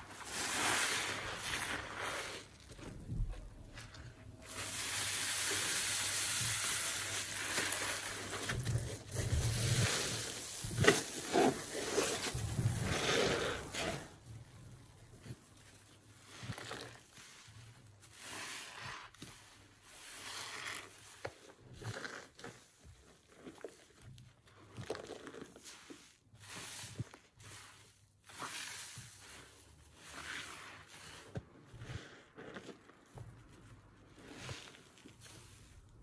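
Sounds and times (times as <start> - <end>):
sponge squelching: 0.0 - 36.0
sponge swishing in water: 0.0 - 36.0.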